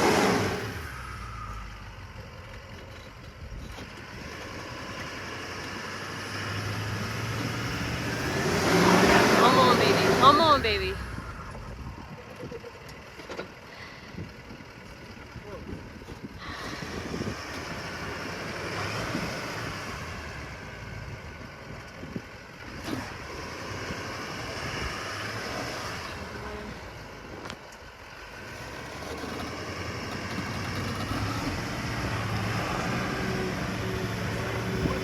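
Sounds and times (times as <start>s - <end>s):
truck engine revving in mud: 0.0s - 14.8s, 15.6s - 35.0s.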